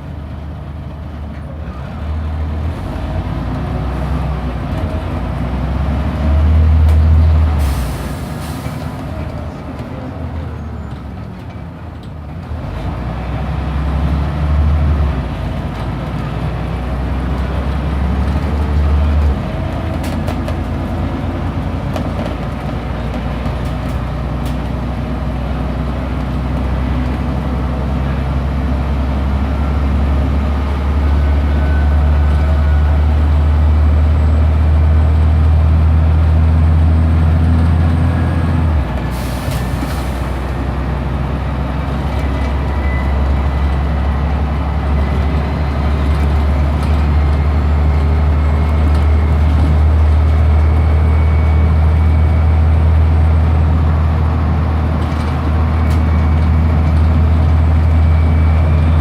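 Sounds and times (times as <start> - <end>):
bus engine pulling away: 0.0 - 59.0.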